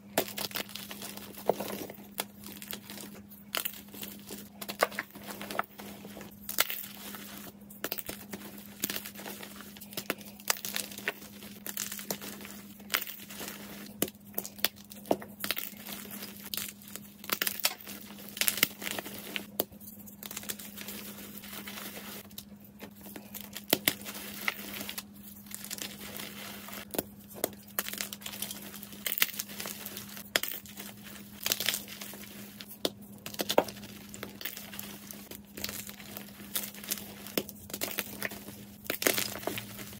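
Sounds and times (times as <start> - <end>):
chalk crunching and crackling: 0.2 - 39.9.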